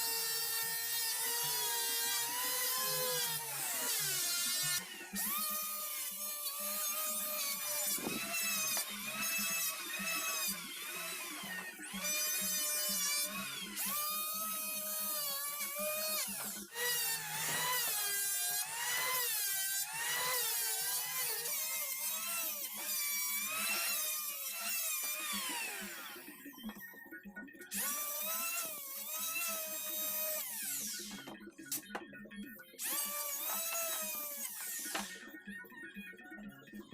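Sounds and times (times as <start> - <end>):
power tool whining into wood: 0.0 - 26.9, 27.7 - 32.0, 32.8 - 35.4.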